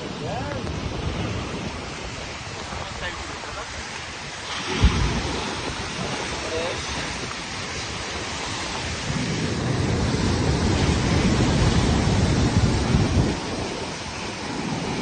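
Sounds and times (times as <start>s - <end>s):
ocean surf breaking on rocks: 0.0s - 15.0s.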